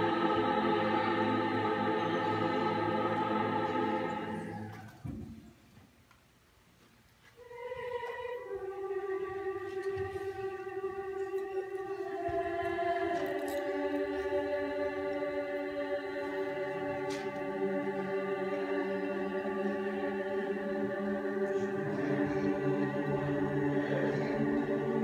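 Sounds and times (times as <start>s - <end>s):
choir singing held chords: 0.0s - 5.1s, 7.4s - 25.0s.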